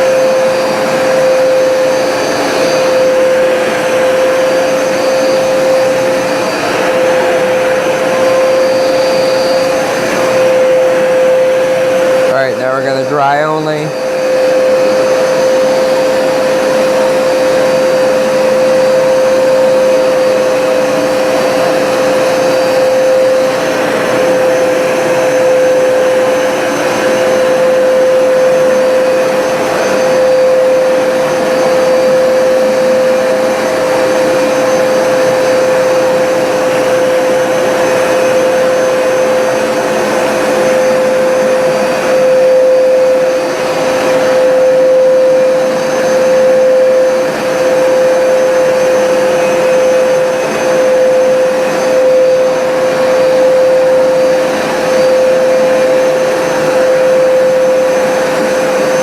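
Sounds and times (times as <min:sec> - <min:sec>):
carpet cleaner motor humming: 0:00.0 - 0:59.0.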